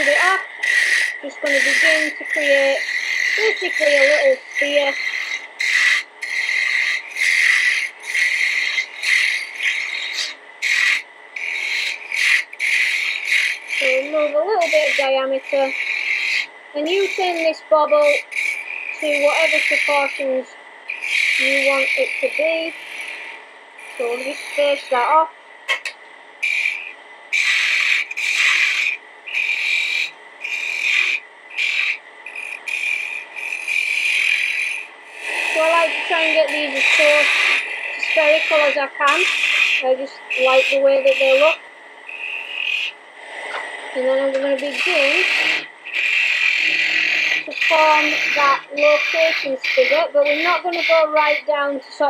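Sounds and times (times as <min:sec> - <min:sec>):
gouge cutting wood on lathe: 0:00.0 - 0:51.8.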